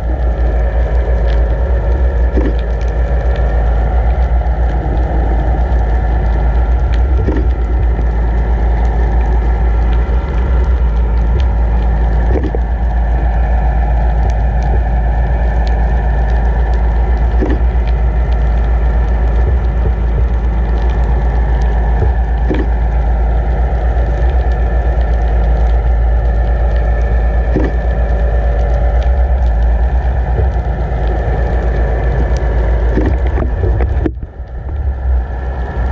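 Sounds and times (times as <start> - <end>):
boat engine hum through water: 0.0 - 35.9
underwater rush of water: 0.0 - 35.9.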